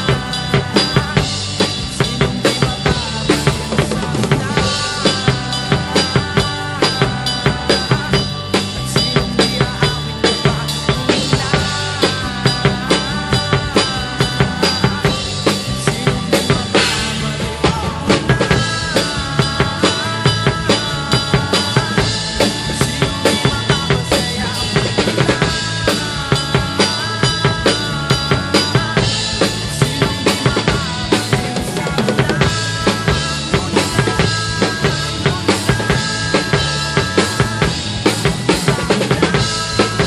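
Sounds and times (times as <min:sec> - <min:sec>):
recorded song: 0:00.0 - 0:40.0.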